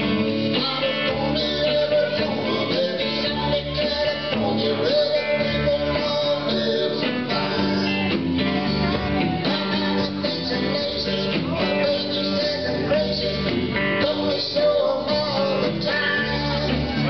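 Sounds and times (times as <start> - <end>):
electric guitars: 0.0 - 17.0
live country band: 0.0 - 17.0.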